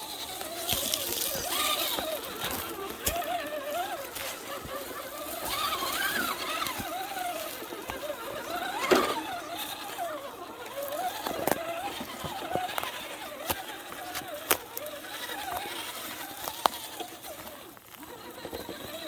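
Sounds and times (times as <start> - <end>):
radio-controlled car motor whining: 0.0 - 19.0.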